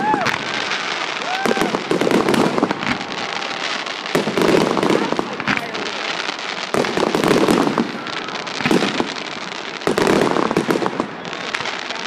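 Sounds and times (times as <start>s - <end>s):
dense firework crackling: 0.0s - 12.0s
fireworks bursting overhead: 0.0s - 12.0s.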